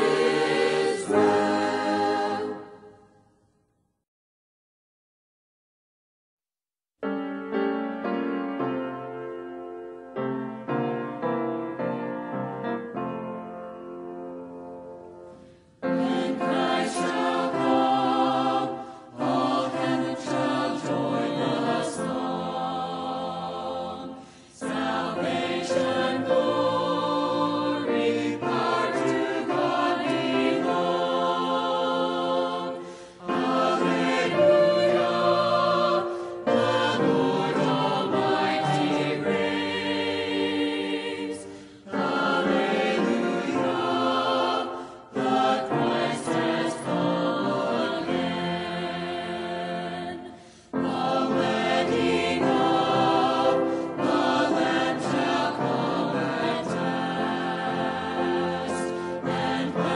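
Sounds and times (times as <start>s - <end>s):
choir singing a hymn: 0.0s - 3.2s, 8.6s - 59.9s.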